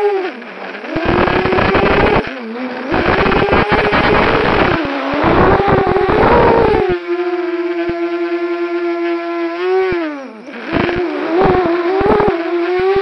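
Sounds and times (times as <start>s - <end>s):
rough rushing wind noise: 0.0s - 8.1s, 9.8s - 13.0s
drone motors whining: 0.0s - 13.0s.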